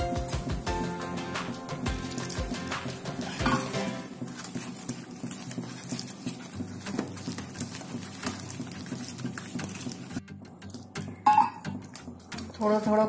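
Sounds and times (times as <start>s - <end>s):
wet batter squishing in bowl: 1.9s - 13.0s.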